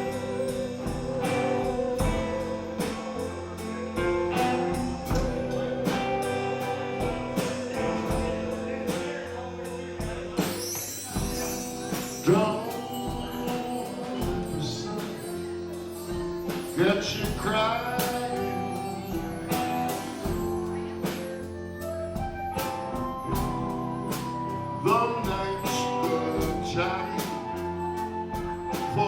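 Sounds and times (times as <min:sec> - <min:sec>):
band playing slow song: 0:00.0 - 0:29.0
person singing: 0:00.0 - 0:29.0.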